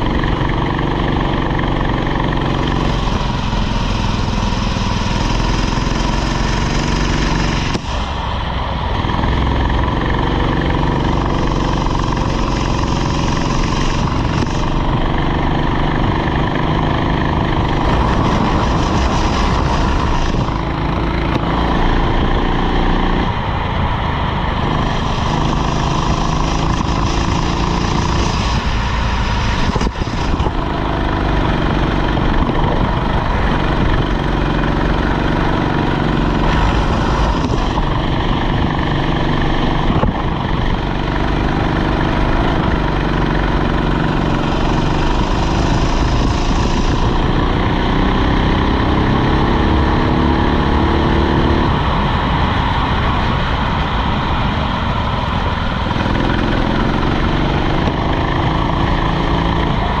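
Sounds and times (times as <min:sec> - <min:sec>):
go-kart engine running hard: 0:00.0 - 1:00.0.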